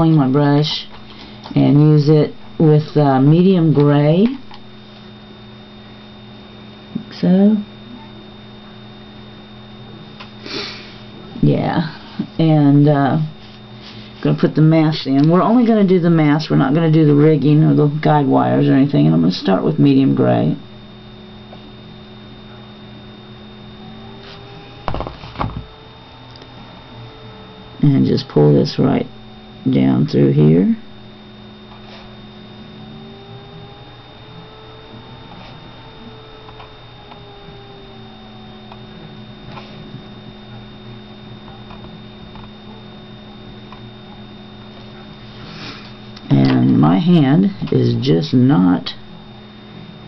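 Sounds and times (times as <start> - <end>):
electrical mains hum: 0.0 - 50.0
faint steady tones: 0.0 - 50.0
thin high whine: 0.0 - 50.0.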